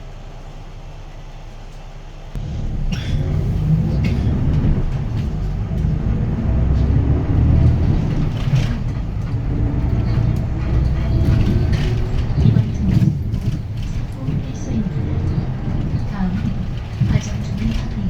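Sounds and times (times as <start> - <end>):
bus diesel engine under load: 0.0 - 18.0.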